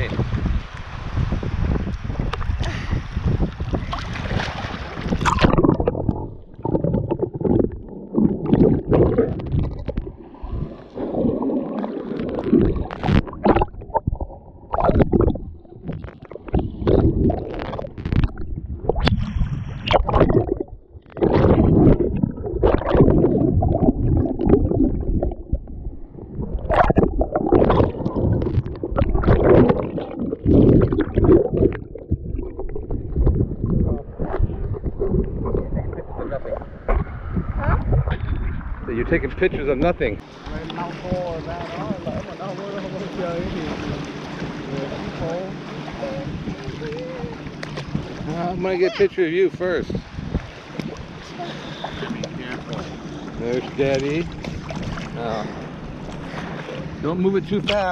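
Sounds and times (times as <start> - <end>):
muffled sea water sloshing: 0.0 - 57.9
water splashes: 0.0 - 57.9.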